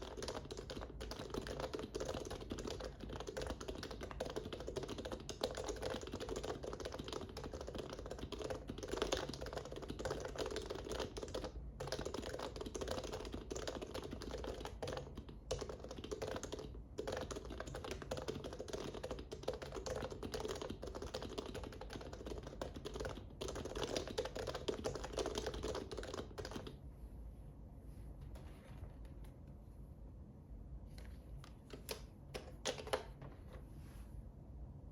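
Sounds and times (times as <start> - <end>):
fast keyboard typing: 0.0 - 26.8, 31.7 - 33.2.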